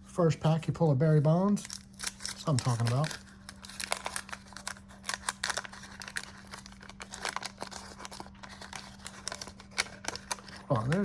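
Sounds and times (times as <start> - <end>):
wax paper wrapper crinkling: 1.1 - 11.0.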